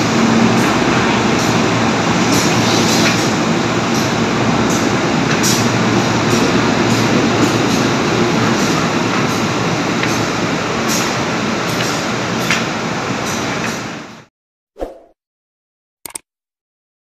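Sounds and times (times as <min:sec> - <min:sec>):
electric train rumbling: 0:00.0 - 0:14.3.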